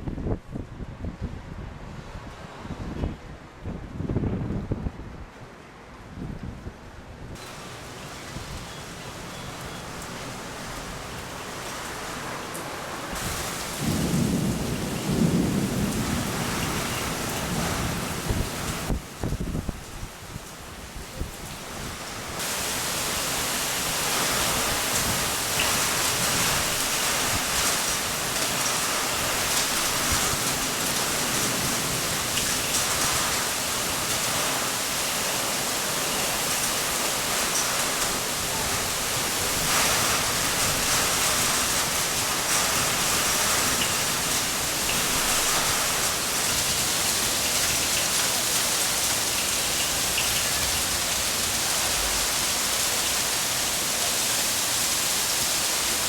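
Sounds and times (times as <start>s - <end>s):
heavy rain falling: 7.4s - 56.0s.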